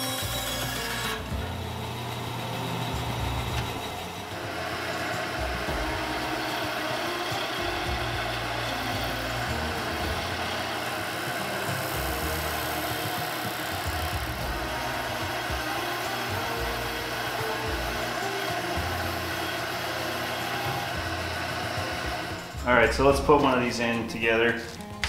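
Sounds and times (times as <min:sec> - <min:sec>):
disc sander grinding wood: 0:00.0 - 0:24.1.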